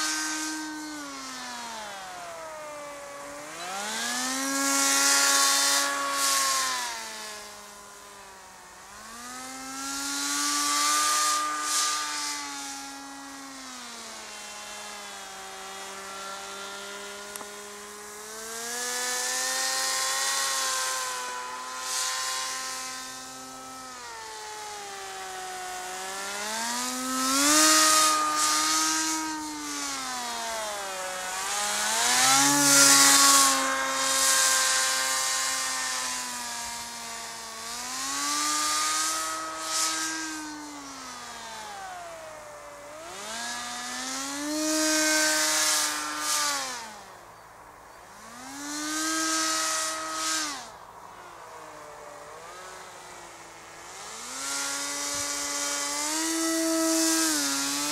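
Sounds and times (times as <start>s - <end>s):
electric motor and propeller whine: 0.0s - 57.9s.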